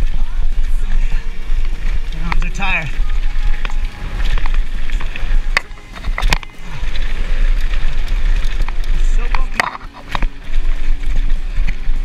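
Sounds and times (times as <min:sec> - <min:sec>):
bike tyre and chain noise: 0:00.0 - 0:12.0.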